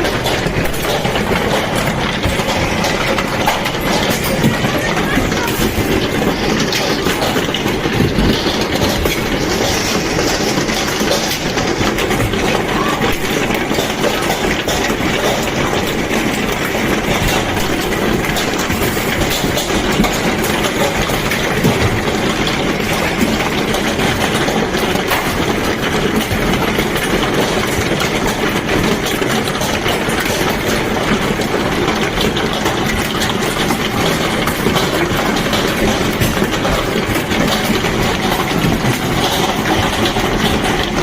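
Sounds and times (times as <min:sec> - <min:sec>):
hailstones clattering: 0:00.0 - 0:41.0.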